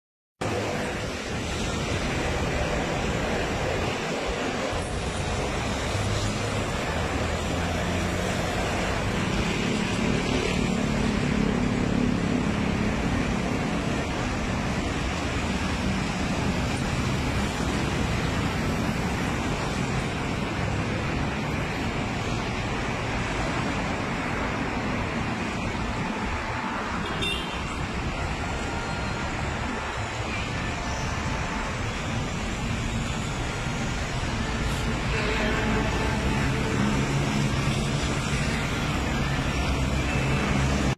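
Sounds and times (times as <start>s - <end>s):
roadway traffic noise: 0.4s - 40.9s.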